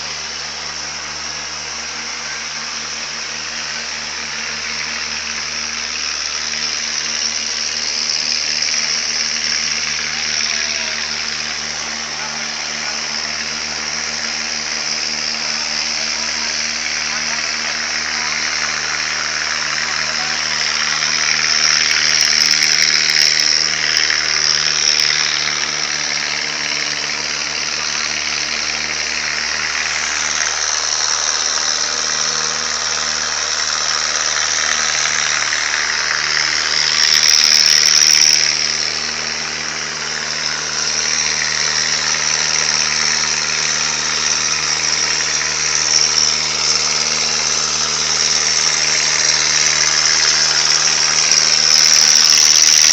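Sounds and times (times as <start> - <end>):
engine running steadily: 0.0 - 52.9
loud steady hiss: 0.0 - 52.9.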